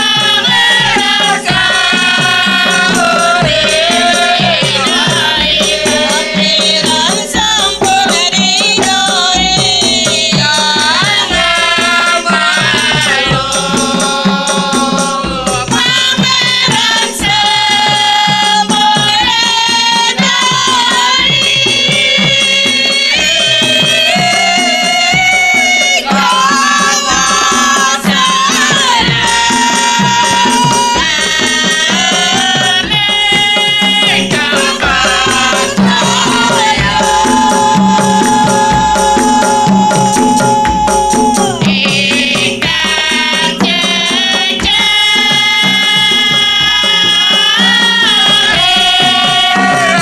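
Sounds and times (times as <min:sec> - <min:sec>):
hand drum percussion: 0:00.0 - 0:50.0
women singing in a group: 0:00.0 - 0:50.0.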